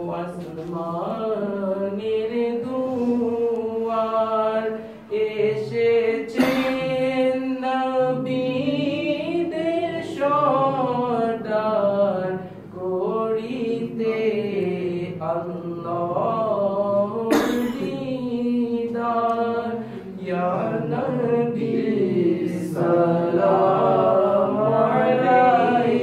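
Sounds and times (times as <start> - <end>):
men singing unaccompanied: 0.0 - 26.0.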